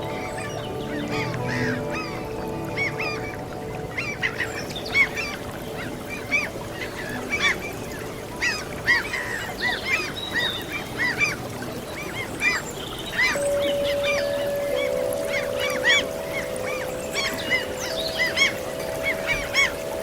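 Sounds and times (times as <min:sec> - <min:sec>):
gulls calling: 0:00.0 - 0:20.0
sea waves: 0:00.0 - 0:20.0.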